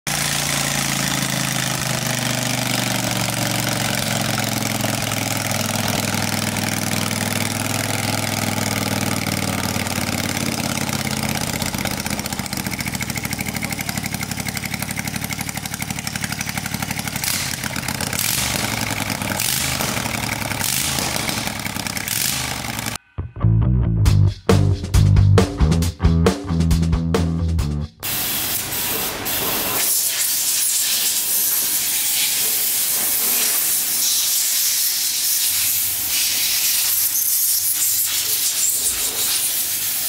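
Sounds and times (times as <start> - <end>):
petrol engine idling: 0.1 - 23.0, 28.0 - 38.5.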